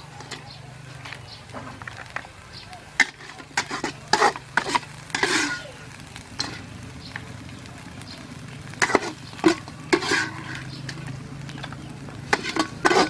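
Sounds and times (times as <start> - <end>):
metal spatula scraping wok: 0.0 - 2.3, 2.9 - 13.0
sauce sizzling: 0.0 - 13.0.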